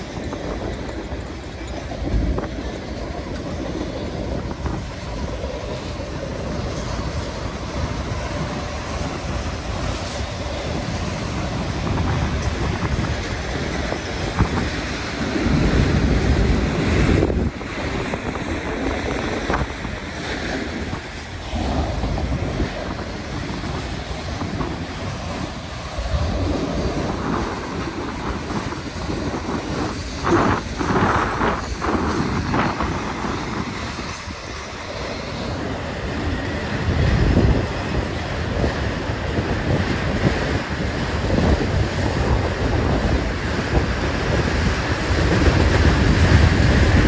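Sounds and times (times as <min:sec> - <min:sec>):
train wheels rumbling on rails: 0:00.0 - 0:47.0
wind buffeting microphone: 0:00.0 - 0:47.0.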